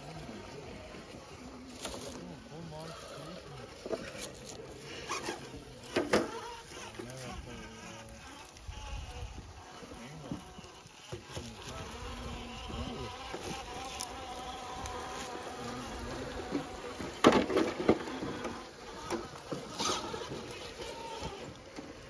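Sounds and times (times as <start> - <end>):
electric motor and gears whining: 0.0 - 22.0.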